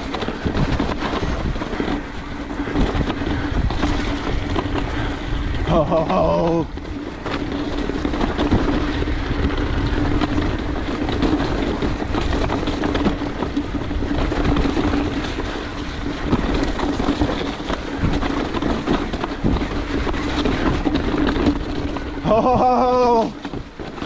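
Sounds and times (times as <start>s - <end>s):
bike rattling and knocking: 0.0s - 24.0s
bike tyres on dirt trail: 0.0s - 24.0s
wind on microphone: 0.0s - 24.0s.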